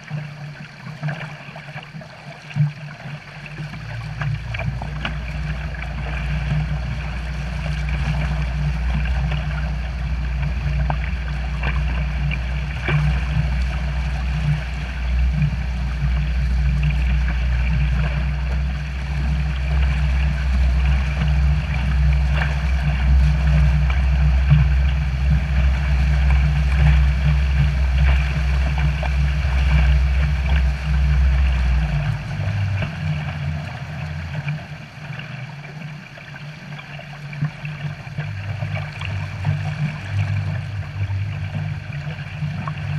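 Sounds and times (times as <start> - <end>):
steady low rumble: 0.0 - 42.9
water churning and splashing: 0.0 - 42.9.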